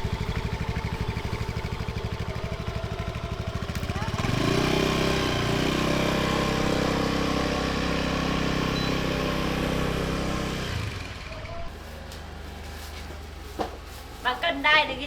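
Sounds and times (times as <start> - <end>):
motorbike engine riding off: 0.0 - 14.1.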